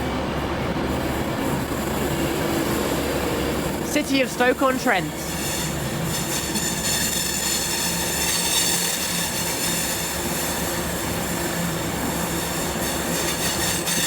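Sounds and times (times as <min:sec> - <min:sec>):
train humming: 0:00.0 - 0:14.0.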